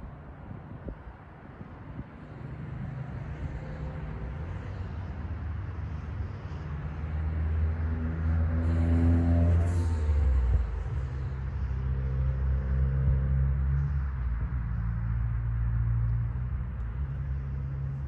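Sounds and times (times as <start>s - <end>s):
diesel locomotive engine drone: 1.8s - 18.0s.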